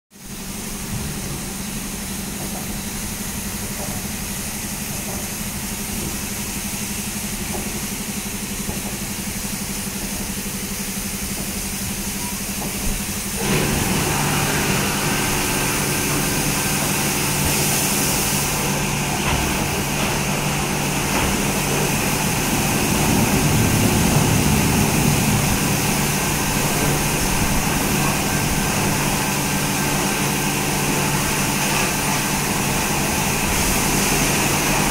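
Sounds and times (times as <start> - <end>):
machine hum of motors and pumps: 0.2 - 34.9
spraying water: 0.2 - 34.9.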